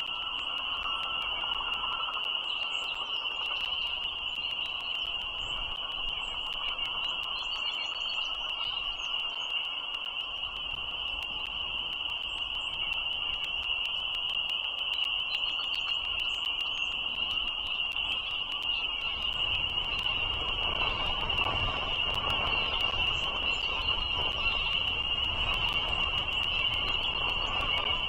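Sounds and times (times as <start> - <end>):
chorus of frogs calling: 0.0 - 28.0
faint rapid ticking: 0.0 - 28.0.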